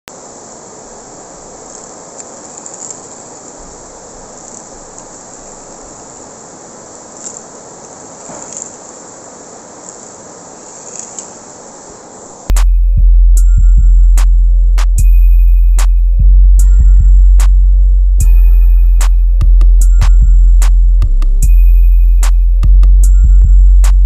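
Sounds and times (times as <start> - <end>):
room noise hiss: 0.1 - 24.0.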